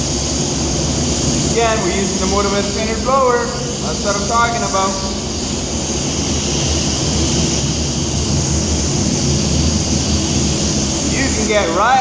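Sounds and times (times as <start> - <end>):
air blower hissing: 0.0 - 12.0.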